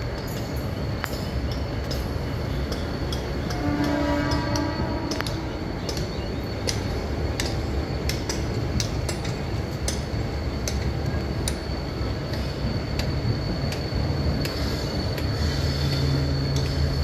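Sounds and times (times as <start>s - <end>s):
train rumbling: 0.0s - 17.0s
wheels clicking over rail joints: 0.0s - 17.0s.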